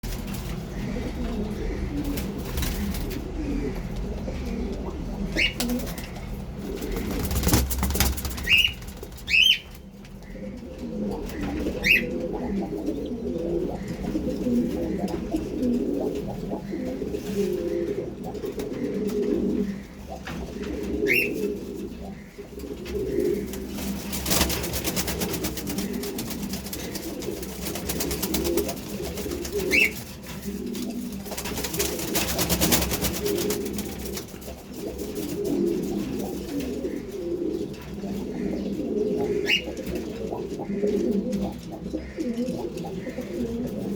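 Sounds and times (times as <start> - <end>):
pigeons cooing: 0.1 - 43.9.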